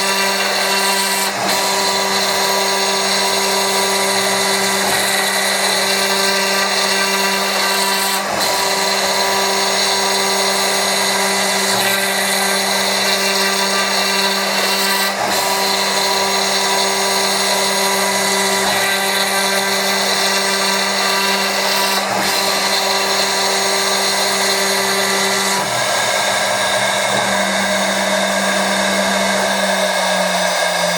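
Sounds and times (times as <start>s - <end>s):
milling machine whine: 0.0s - 30.9s.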